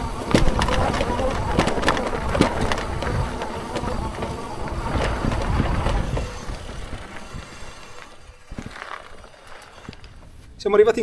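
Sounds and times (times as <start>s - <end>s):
rattling knocks and clicks: 0.0s - 10.4s
bike tyres rumbling on dirt: 0.0s - 11.0s.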